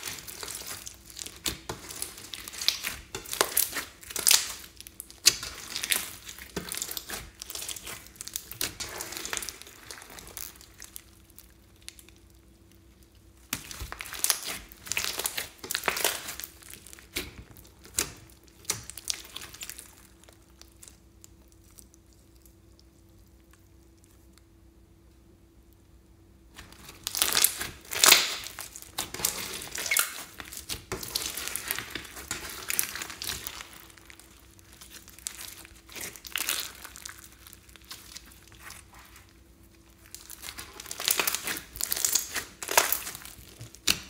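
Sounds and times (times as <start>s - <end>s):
slime crackling and popping: 0.0s - 24.4s, 26.5s - 44.0s.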